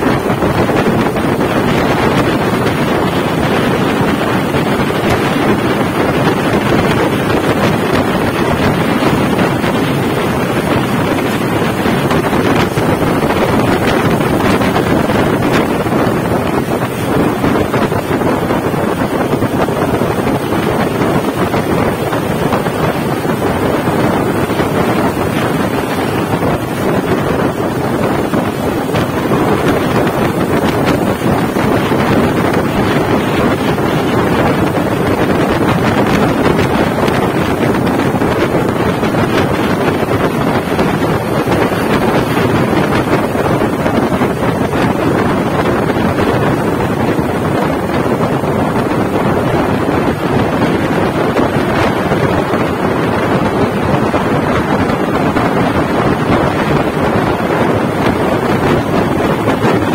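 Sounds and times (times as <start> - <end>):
vehicle engine noise: 0.0 - 59.9
wind rushing on microphone: 0.0 - 59.9.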